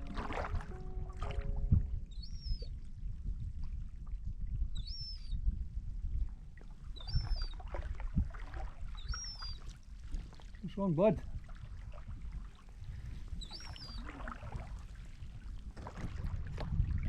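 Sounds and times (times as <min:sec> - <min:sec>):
paddle splashing and dripping water: 0:00.0 - 0:04.7, 0:06.1 - 0:17.0
water lapping against hull: 0:00.0 - 0:17.0.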